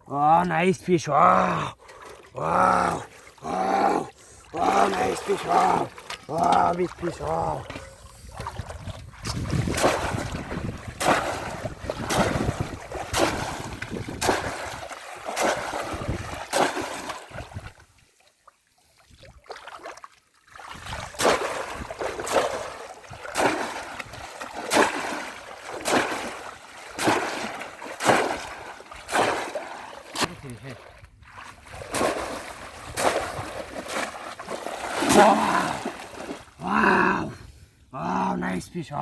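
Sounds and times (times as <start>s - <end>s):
basket traps splashing into water: 1.8s - 17.9s, 19.3s - 36.7s.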